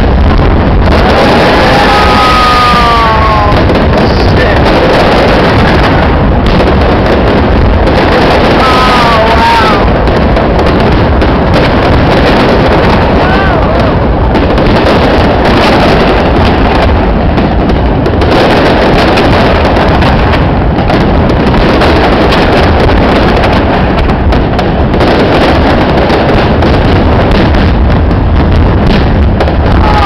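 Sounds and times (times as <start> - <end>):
fireworks bursts and crackle: 0.0 - 30.0
wind rumbling on microphone: 0.0 - 30.0.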